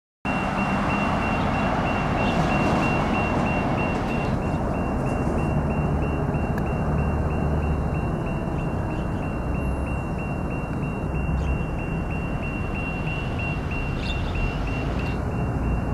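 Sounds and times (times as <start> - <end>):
road traffic noise: 0.3 - 15.9
warning signal beeping: 0.3 - 15.9.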